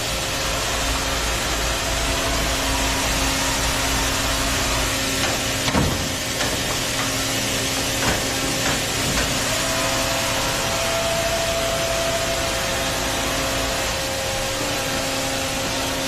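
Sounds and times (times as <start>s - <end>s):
high machine whine: 0.0s - 16.0s
machine hiss and hum: 0.0s - 16.0s.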